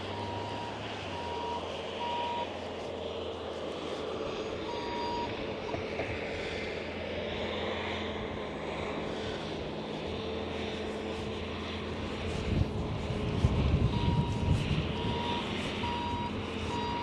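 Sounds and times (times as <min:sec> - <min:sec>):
engine drone: 0:00.0 - 0:17.0
outdoor background noise: 0:00.0 - 0:17.0.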